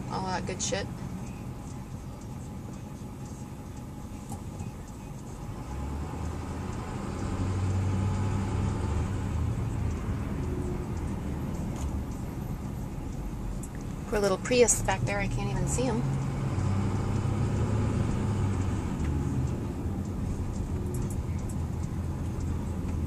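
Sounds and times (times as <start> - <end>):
diesel engine drone from cab: 0.0 - 23.0.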